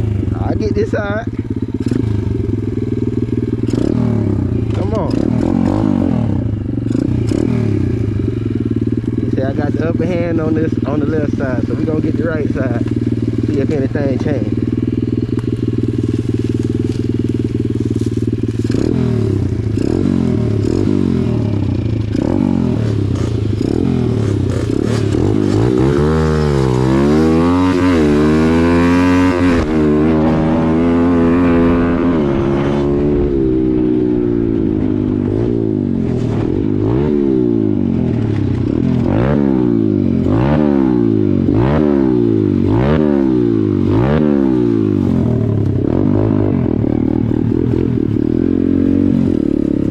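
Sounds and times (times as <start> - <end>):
dirt bike engines racing: 0.0 - 2.1, 3.6 - 8.0, 9.0 - 49.9.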